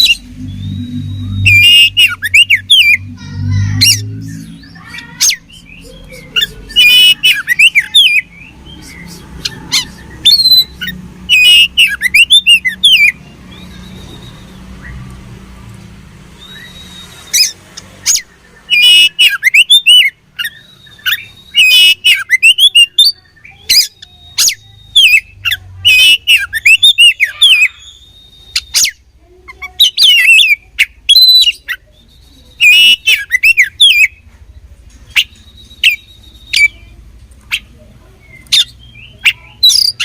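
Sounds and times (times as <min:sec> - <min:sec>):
bird singing: 0:00.0 - 0:15.4, 0:16.3 - 0:40.0.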